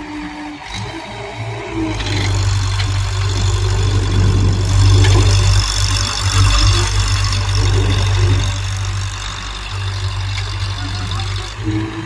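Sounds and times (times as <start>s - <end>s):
heavy vehicle engine droning: 0.0s - 12.0s.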